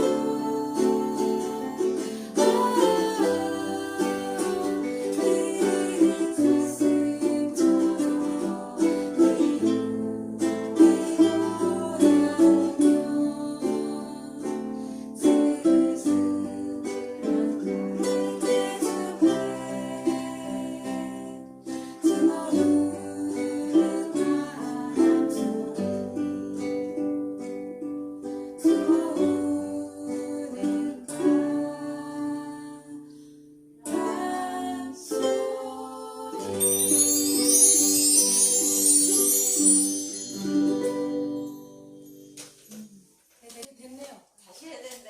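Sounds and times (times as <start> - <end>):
ukulele ensemble strumming: 0.0 - 43.1.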